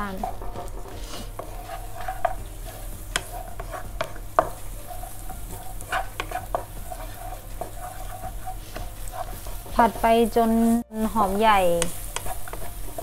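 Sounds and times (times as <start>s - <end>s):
utensil scraping and knocking pan: 0.0s - 10.4s, 11.7s - 13.0s
onions sizzling in oil: 0.0s - 13.0s.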